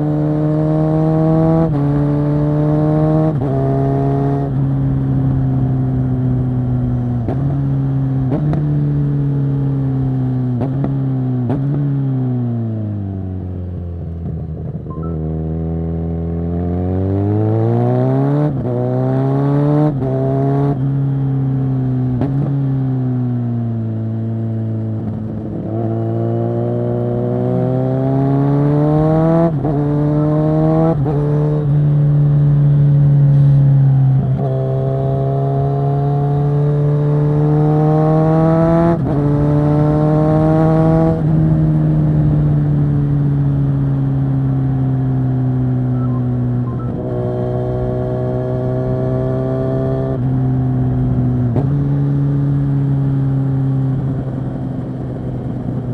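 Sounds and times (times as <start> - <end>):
motorcycle engine: 0.0 - 55.9.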